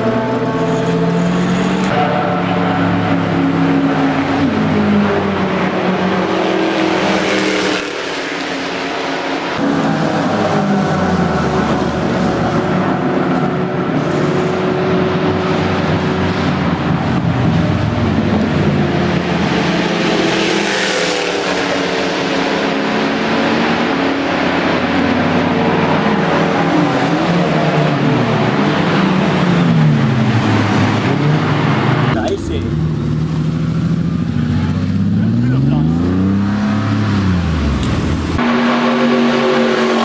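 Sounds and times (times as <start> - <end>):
racing car engines passing: 0.0 - 40.0.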